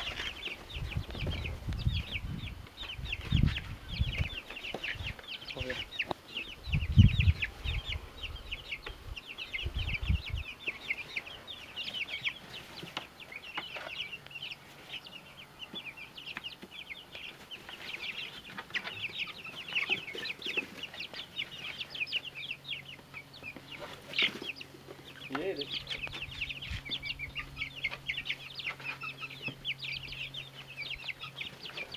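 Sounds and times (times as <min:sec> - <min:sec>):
chicks peeping: 0:00.0 - 0:31.9.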